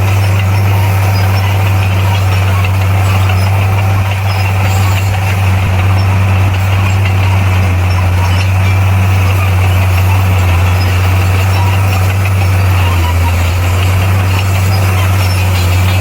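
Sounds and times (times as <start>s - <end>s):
bulldozer diesel engine droning: 0.0s - 16.0s.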